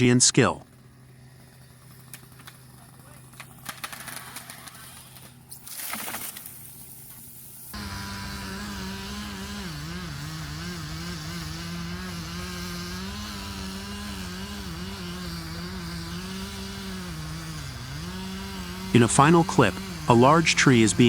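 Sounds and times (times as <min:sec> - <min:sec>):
chainsaw cutting wood: 0:00.7 - 0:06.8, 0:07.7 - 0:21.0.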